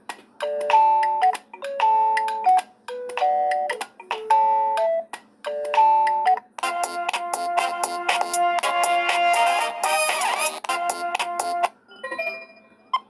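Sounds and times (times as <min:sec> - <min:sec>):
phone ringtone: 0:00.4 - 0:13.0.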